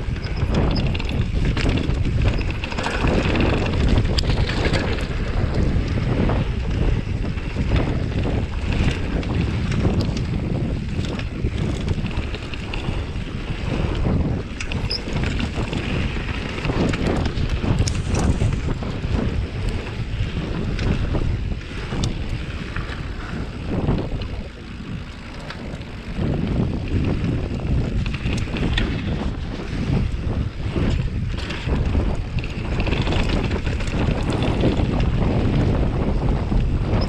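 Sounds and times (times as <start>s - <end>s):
bike rattles and clicks: 0.0s - 37.0s
tyres rumbling on dirt: 0.0s - 37.0s
wind buffeting microphone: 0.0s - 37.0s.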